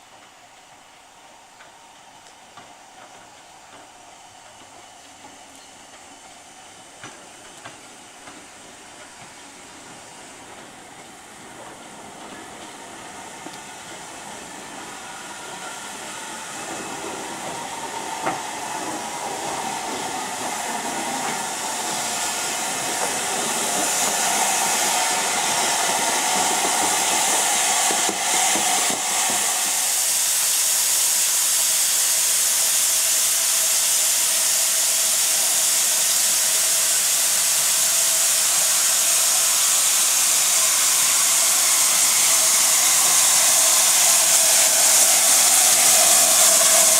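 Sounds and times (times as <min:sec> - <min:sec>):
steady steam hiss: 0:00.0 - 0:46.9
steam train approaching: 0:00.0 - 0:46.9.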